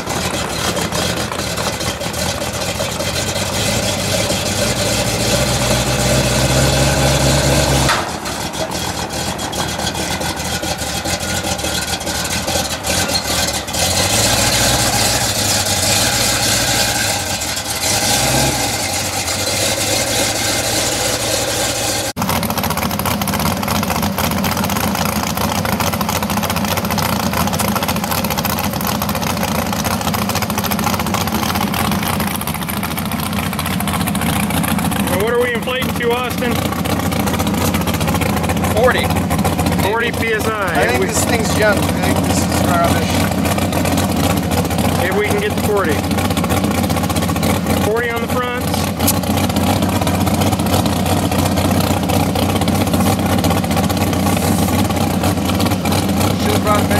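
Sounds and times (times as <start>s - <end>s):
car engine idling and pulling away: 0.0s - 56.9s.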